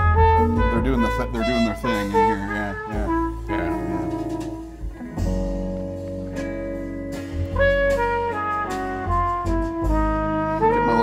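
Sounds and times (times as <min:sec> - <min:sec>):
melodic music over deep bass: 0:00.0 - 0:11.0.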